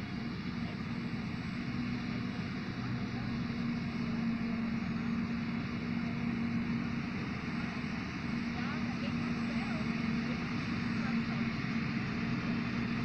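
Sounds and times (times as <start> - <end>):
tractor running: 0.0 - 13.0.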